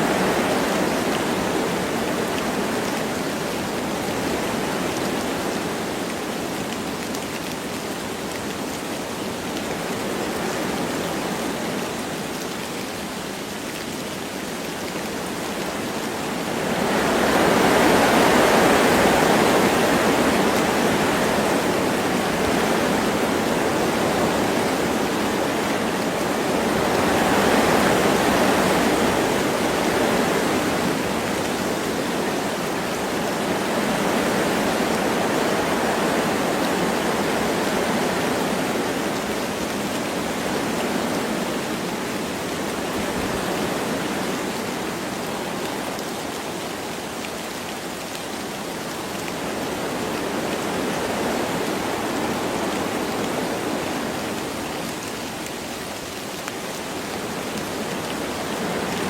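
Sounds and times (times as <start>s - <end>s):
light rain: 0.0s - 59.0s
wind gusting through trees: 0.0s - 59.0s.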